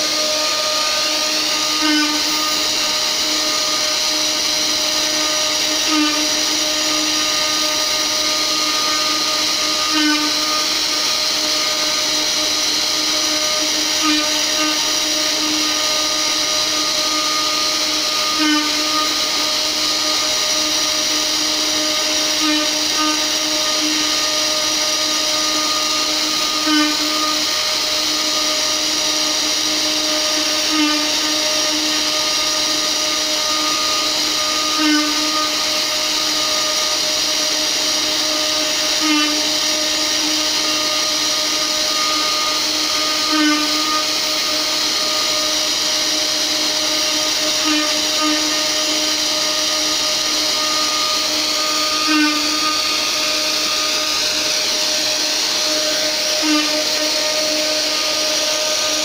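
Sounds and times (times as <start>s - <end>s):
router spindle carving wood: 0.0s - 59.0s.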